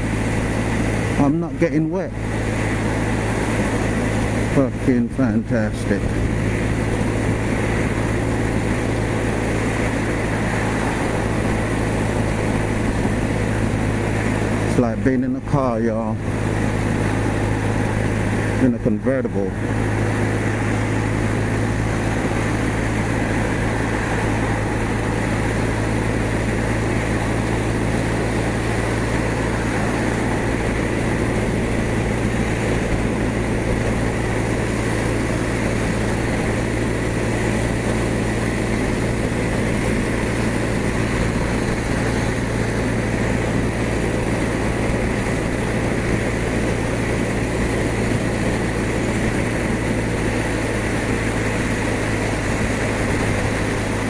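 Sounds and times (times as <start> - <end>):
motorcycle engine drone: 0.0 - 54.0
wind and tyres on wet road: 0.0 - 54.0.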